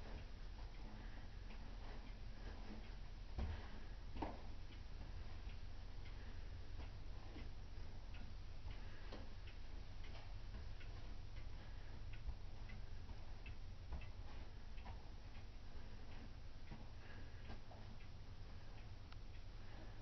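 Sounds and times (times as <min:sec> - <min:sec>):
low steady rumble: 0:00.0 - 0:20.0
pendulum clocks ticking: 0:00.0 - 0:20.0.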